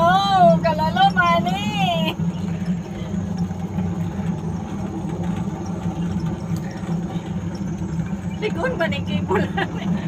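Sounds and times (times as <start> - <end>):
ride machinery hum: 0.0 - 10.0.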